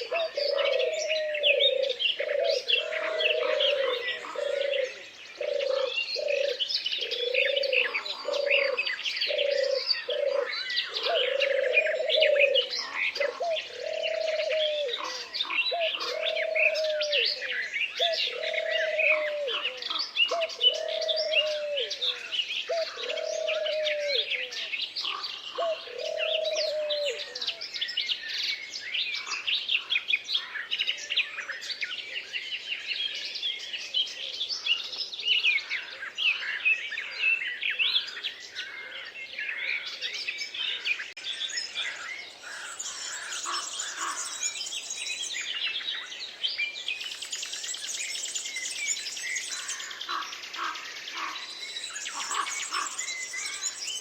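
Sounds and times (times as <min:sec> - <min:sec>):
low repeated bird call: 0:00.0 - 0:31.0, 0:33.2 - 0:54.0
songbirds chirping and whistling: 0:00.0 - 0:54.0.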